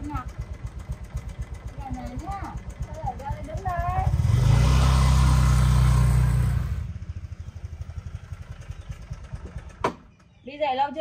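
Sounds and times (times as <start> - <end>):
engine running: 0.0 - 10.4.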